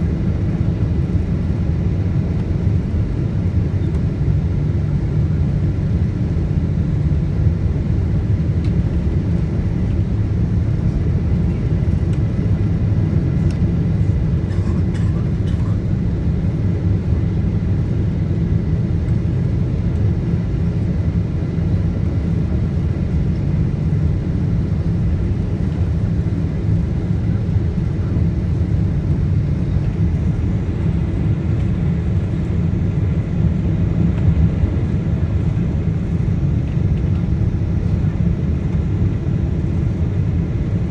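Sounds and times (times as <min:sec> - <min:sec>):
aircraft engine and airflow rumble: 0:00.0 - 0:40.9.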